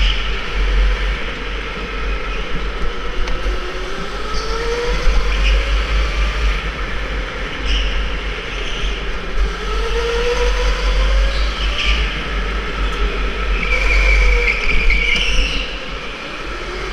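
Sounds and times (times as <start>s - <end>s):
electric go-kart motor whine: 0.0s - 16.9s
heavy low rumble: 0.0s - 16.9s.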